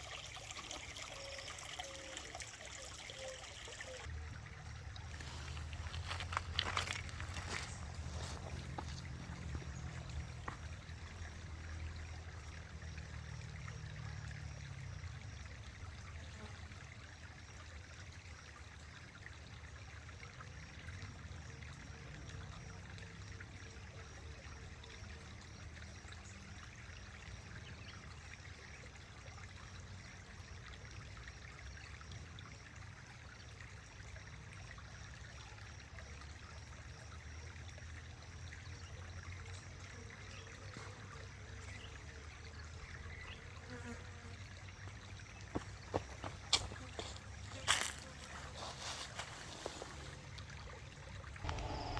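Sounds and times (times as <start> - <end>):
faint running water: 0.0 - 51.9.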